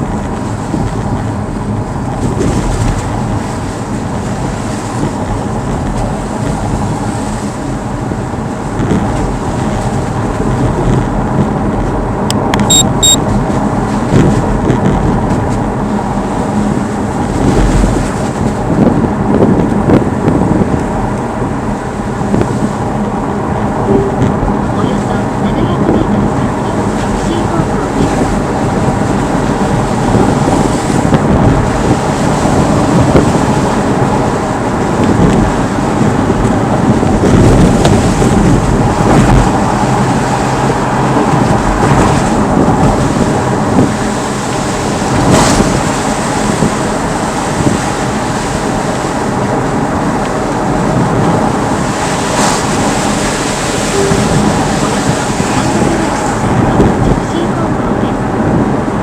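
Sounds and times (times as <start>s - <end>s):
engine and road rumble: 0.0s - 59.0s.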